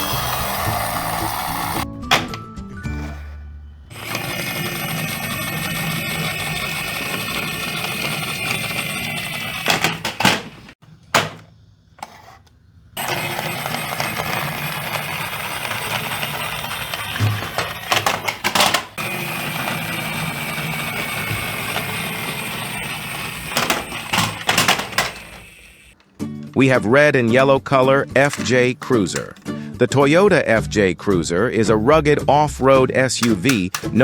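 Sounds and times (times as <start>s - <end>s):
toy bus rattling on track: 0.0s - 2.4s, 3.9s - 11.4s, 13.0s - 29.6s, 33.0s - 34.0s.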